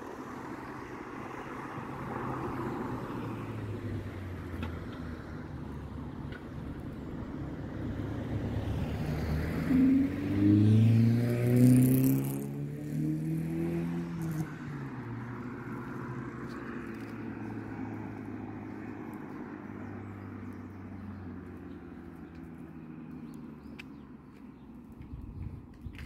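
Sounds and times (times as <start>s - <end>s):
car engine hum: 0.0s - 26.0s.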